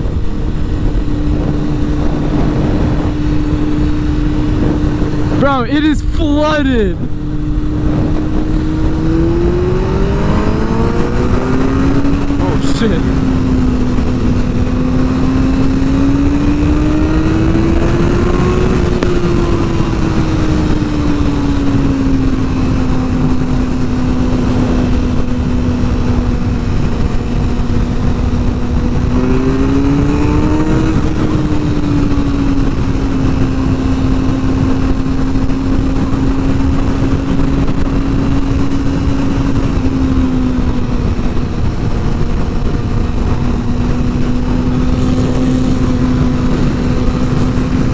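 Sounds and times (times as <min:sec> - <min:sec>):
motorcycle engine revving: 0:00.0 - 0:47.9
wind rushing on microphone: 0:00.0 - 0:47.9.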